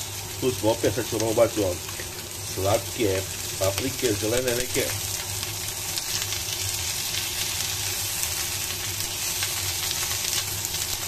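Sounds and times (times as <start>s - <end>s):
fish and peppers sizzling in pan: 0.0s - 11.0s.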